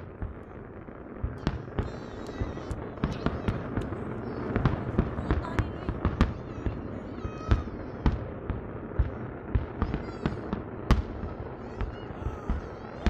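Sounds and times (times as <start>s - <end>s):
fireworks bangs: 0.0s - 13.0s
rumble of explosions: 0.0s - 13.0s.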